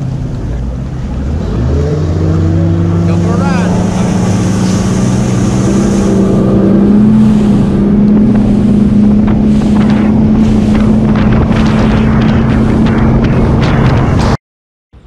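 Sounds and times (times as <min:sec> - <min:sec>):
hull slapping water: 0:00.0 - 0:14.4
outboard motor droning: 0:00.0 - 0:14.4
wind buffeting microphone: 0:00.0 - 0:14.4.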